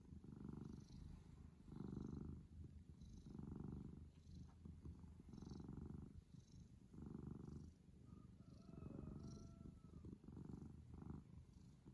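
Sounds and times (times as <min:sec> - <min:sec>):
cat purring: 0:00.0 - 0:11.9.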